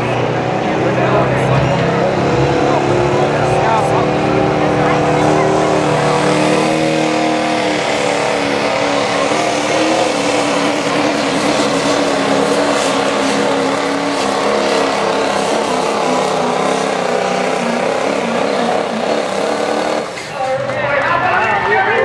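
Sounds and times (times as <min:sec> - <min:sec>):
diesel truck engine under load: 0:00.0 - 0:21.6.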